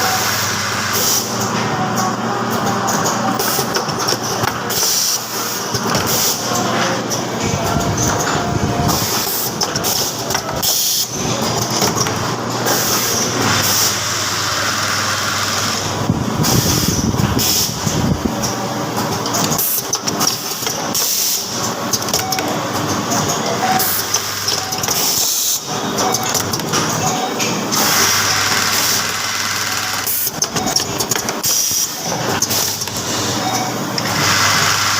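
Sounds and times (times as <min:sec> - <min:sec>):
machinery low hum: 0:00.0 - 0:34.9.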